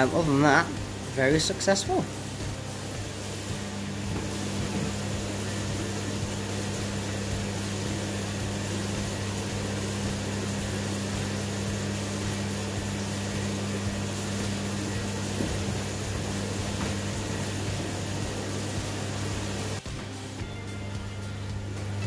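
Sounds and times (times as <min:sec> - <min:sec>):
room equipment humming: 0:00.0 - 0:22.0.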